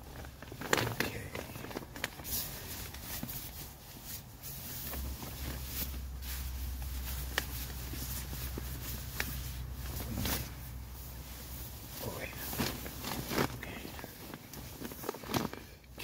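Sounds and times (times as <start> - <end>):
low steady rumble: 0.0 - 16.0
tent fabric rustling: 0.0 - 16.0.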